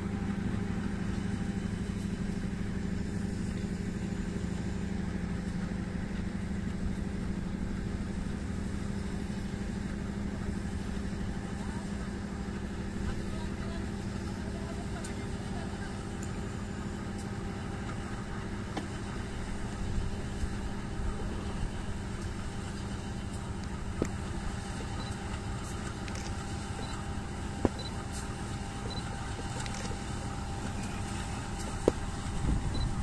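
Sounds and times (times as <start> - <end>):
locomotive engine drone: 0.0 - 33.0.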